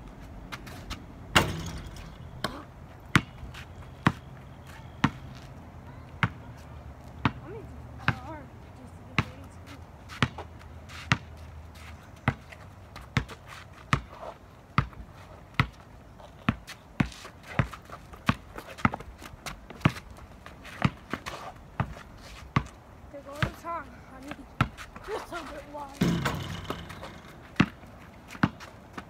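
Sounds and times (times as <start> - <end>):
basketball bouncing on asphalt: 0.2 - 29.0.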